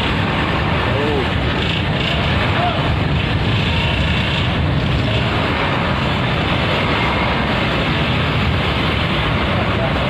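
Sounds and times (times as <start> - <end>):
bus engines rumbling: 0.0 - 10.0
wind: 0.0 - 10.0.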